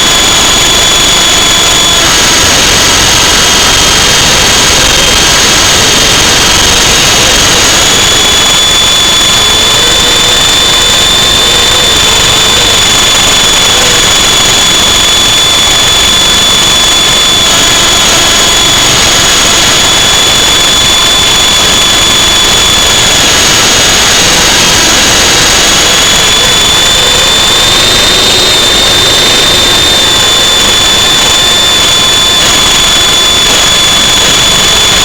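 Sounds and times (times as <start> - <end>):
model aircraft motors whining: 0.0 - 35.0.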